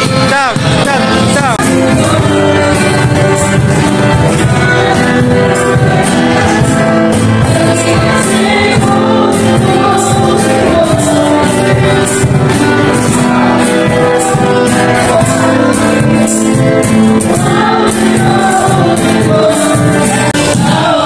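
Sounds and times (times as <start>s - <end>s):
group singing upbeat song: 0.0s - 21.0s
steady percussive beat: 0.0s - 21.0s.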